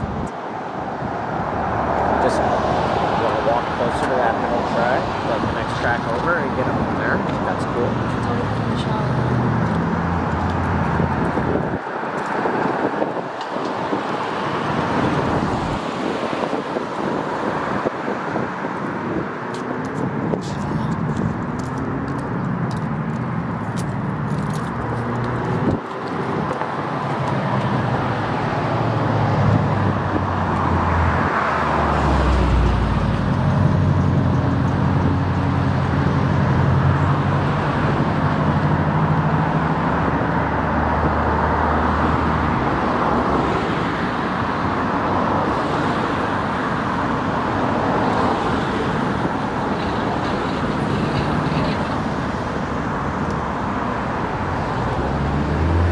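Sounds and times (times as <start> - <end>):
distant traffic rumble: 0.0 - 55.9.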